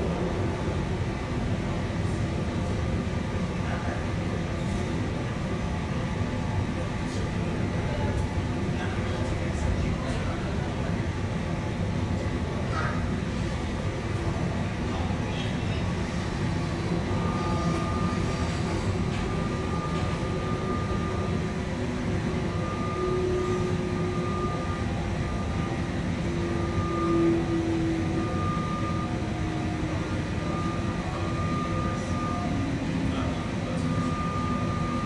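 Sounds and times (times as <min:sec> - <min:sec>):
train rumble inside carriage: 0:00.0 - 0:35.0.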